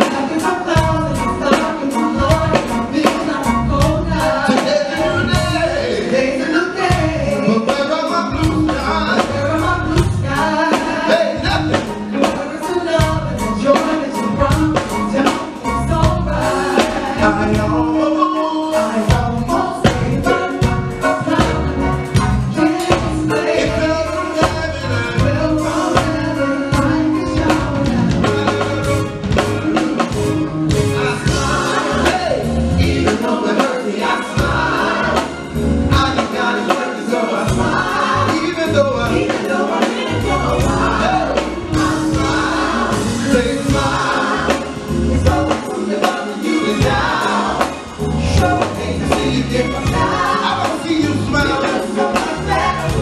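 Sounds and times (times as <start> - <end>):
backing vocalists: 0.0 - 53.0
drums: 0.0 - 53.0
keyboard: 0.0 - 53.0
lead singer: 0.0 - 53.0.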